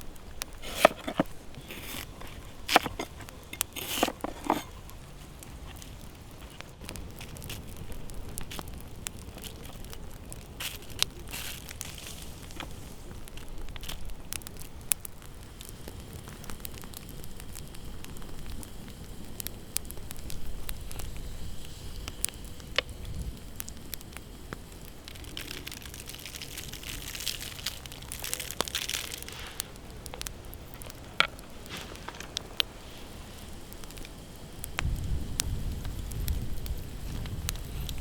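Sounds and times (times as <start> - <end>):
campfire crackling: 0.0 - 38.0
fire hissing: 0.0 - 38.0
sharp pops: 0.0 - 38.0.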